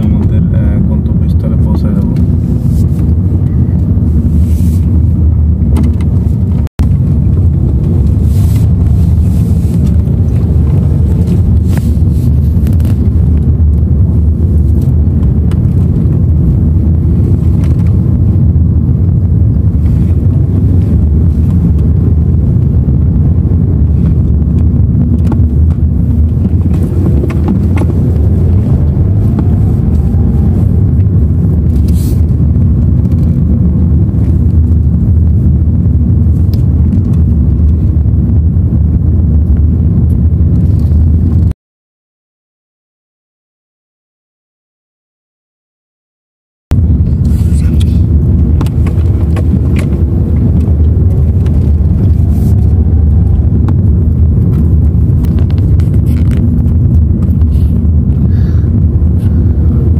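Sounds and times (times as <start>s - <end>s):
car interior engine and road rumble: 0.0s - 41.5s, 46.7s - 59.9s.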